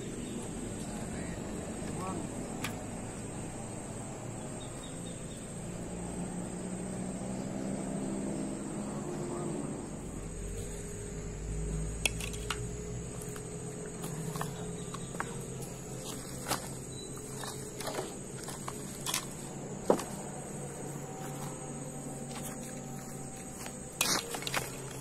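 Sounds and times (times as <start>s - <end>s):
insects trilling: 0.0s - 25.0s
low motor drone: 0.0s - 25.0s.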